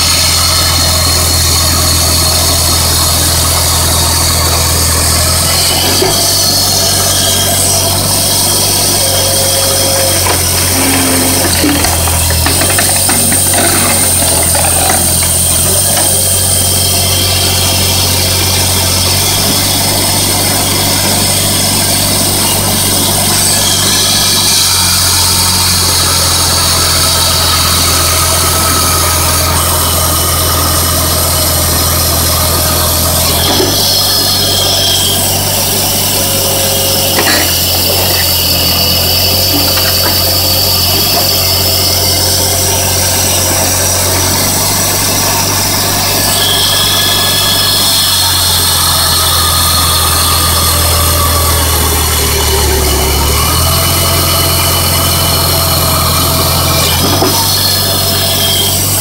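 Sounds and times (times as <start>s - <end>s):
engine running steadily: 0.0s - 59.0s
saw cutting through log: 0.0s - 59.0s.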